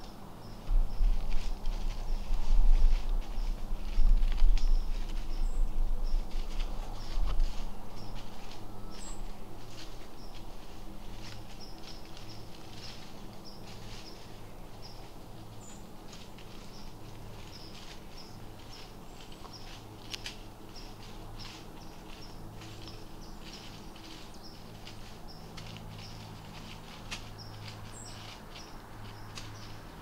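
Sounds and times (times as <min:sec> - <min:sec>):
small birds chirping: 0:00.0 - 0:30.0
steady low hum: 0:00.0 - 0:30.0
soft rustles: 0:00.6 - 0:30.0.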